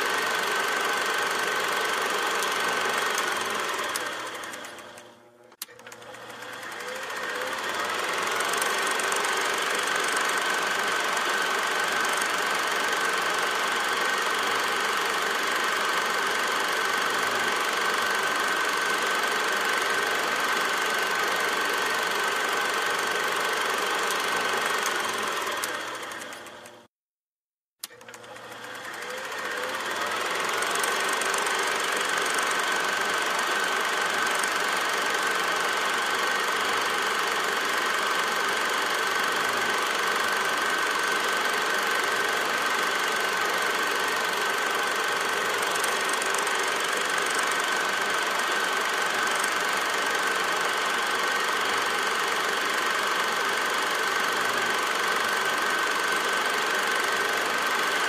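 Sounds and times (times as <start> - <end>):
small machine whining and clattering: 0.0 - 26.9, 27.8 - 58.0.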